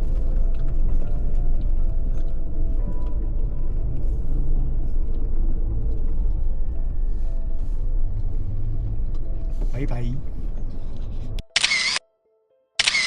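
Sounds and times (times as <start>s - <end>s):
background music with held notes: 0.0s - 11.4s, 12.0s - 12.8s
vehicle driving rumble: 0.0s - 11.5s.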